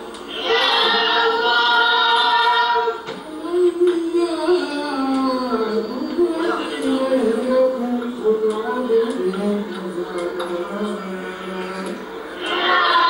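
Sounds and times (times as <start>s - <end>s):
voices chanting unaccompanied: 0.3s - 13.0s.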